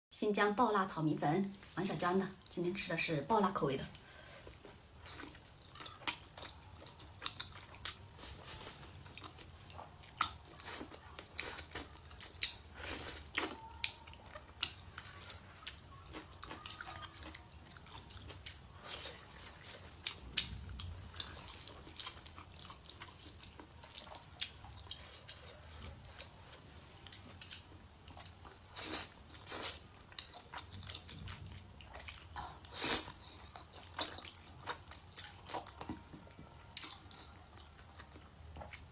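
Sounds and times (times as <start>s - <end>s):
wet chewing: 4.0s - 38.9s.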